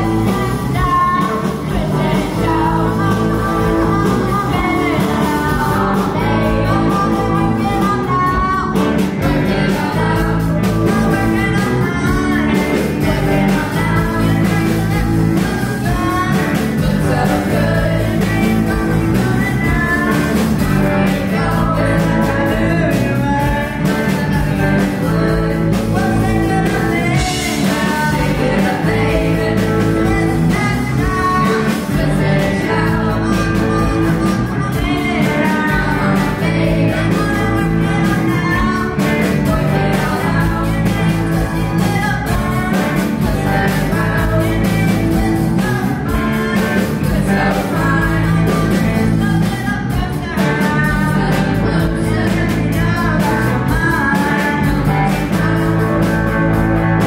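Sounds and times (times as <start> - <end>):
drum beat: 0.0 - 57.0
guitar: 0.0 - 57.0
person singing: 0.0 - 57.0.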